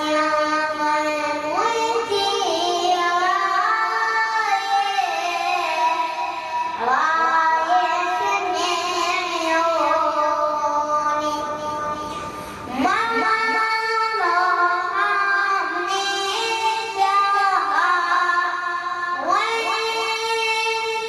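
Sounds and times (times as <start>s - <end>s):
boy singing a lament: 0.0s - 21.0s.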